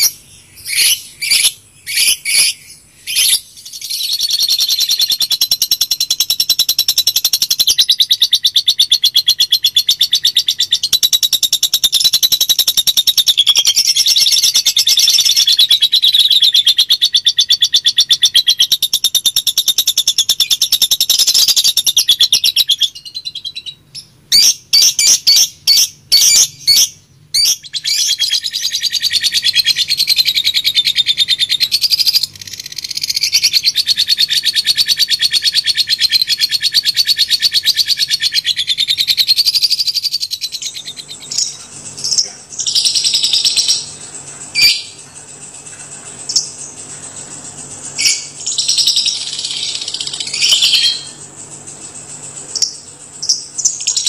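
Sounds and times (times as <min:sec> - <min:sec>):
lovebird chattering trill: 0:00.0 - 0:54.0.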